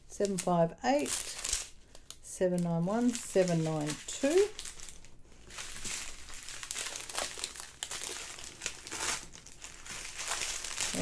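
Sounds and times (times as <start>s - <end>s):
plastic bags crinkling: 0.2s - 11.0s.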